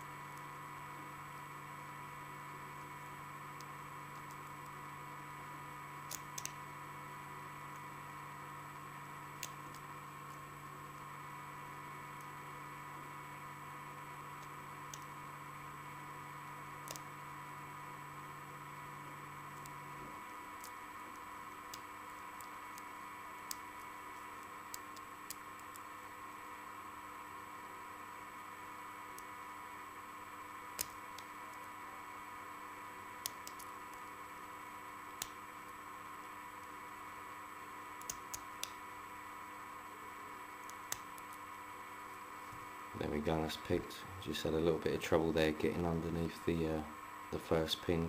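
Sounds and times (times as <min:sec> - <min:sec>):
steady electrical hum: 0:00.0 - 0:48.0.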